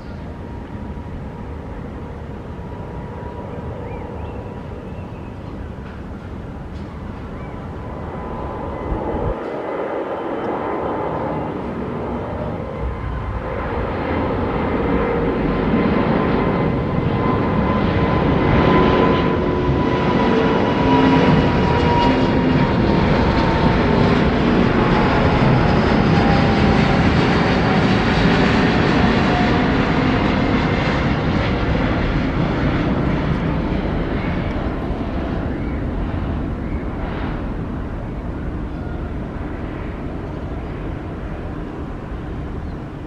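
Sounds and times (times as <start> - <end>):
jet engine roar with whine: 0.0 - 43.0.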